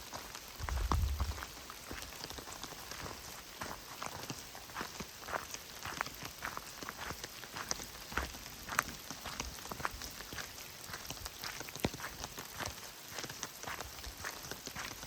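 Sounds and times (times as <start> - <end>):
rain drops ticking: 0.0 - 15.0
steady rain hiss: 0.0 - 15.0.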